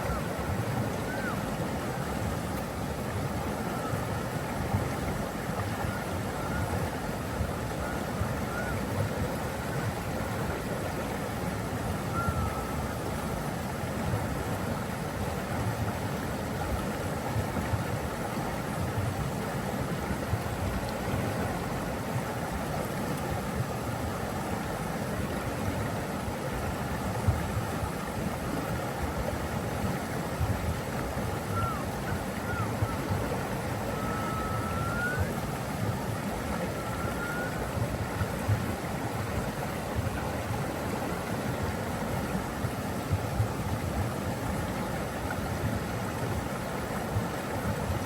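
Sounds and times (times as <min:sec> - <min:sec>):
water rushing: 0:00.0 - 0:48.0.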